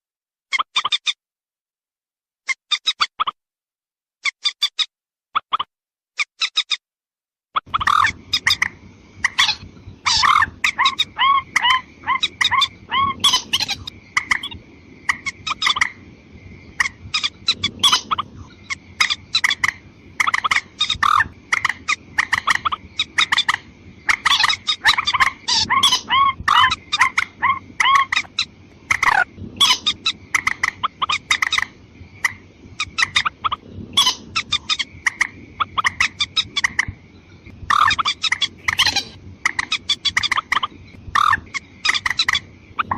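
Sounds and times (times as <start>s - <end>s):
rail bird calls: 7.6s - 42.9s.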